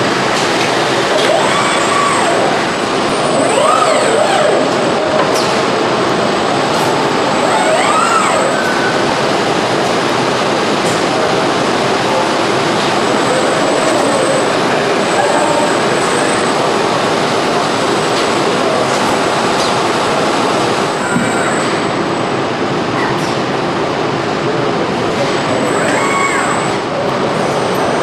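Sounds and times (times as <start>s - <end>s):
assembly line machinery noise: 0.0s - 28.0s.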